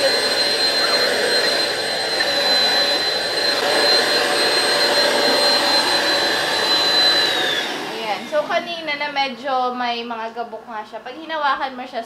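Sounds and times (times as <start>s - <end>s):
vacuum cleaner whining: 0.0s - 10.0s.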